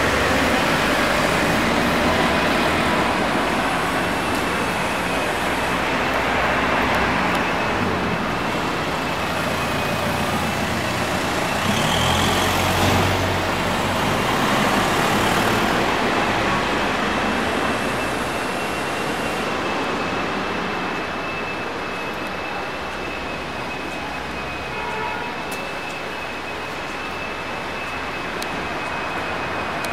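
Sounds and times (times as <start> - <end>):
road traffic rumble and hiss: 0.0 - 29.9.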